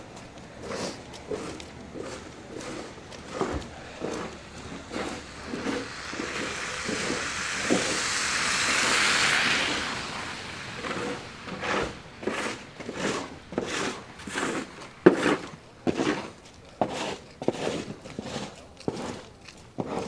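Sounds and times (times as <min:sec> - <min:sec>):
car tyres hissing on wet street: 0:00.0 - 0:20.0
footsteps in snow: 0:00.0 - 0:20.0.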